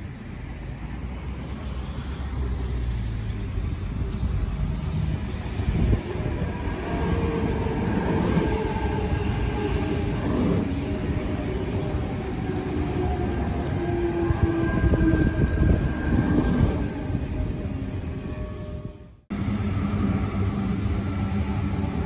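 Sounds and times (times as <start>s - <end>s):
electric train rumbling on rails: 0.0s - 22.0s.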